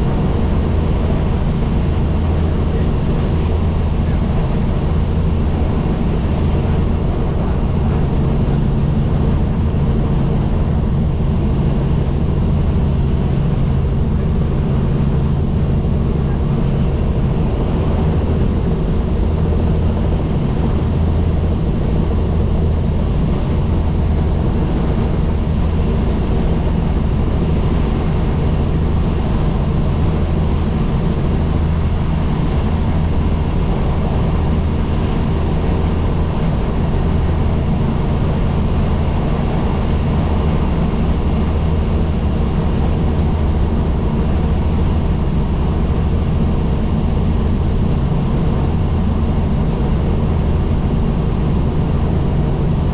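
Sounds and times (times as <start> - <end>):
helicopter rotor drone: 0.0 - 52.9.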